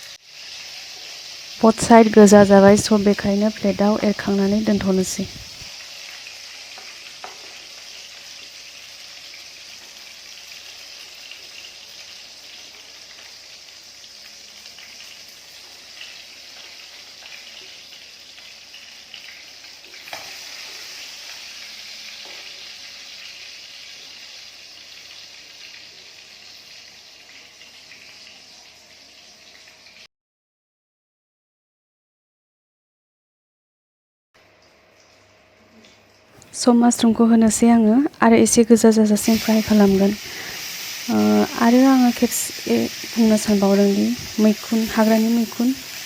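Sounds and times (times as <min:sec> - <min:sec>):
chicken sizzling in hot oil: 0:00.0 - 0:30.1, 0:34.4 - 0:46.0.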